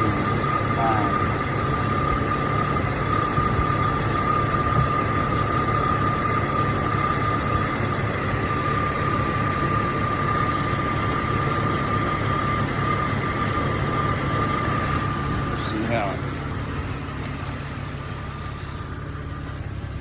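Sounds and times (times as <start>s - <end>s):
car engine idling: 0.0s - 20.0s
steady high whine: 0.0s - 20.0s.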